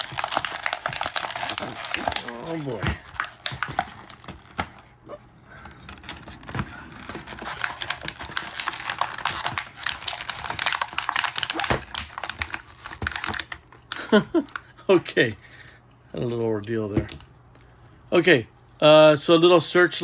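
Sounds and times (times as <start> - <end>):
plastic packaging crinkling and snapping: 0.0 - 17.8.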